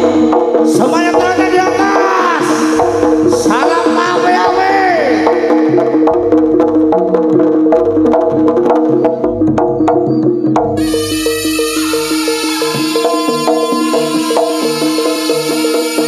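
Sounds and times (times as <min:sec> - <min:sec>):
drum strokes: 0:00.0 - 0:16.0
sharp knocking percussion: 0:00.0 - 0:16.0
swooping rising and falling notes: 0:00.0 - 0:16.0.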